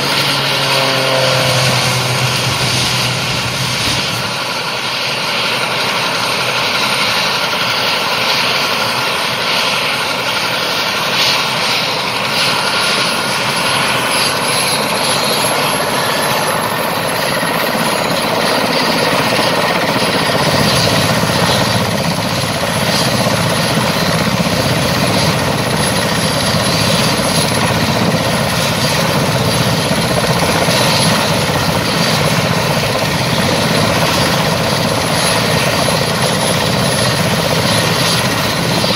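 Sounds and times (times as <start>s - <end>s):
helicopter engines and rotors: 0.0s - 38.9s.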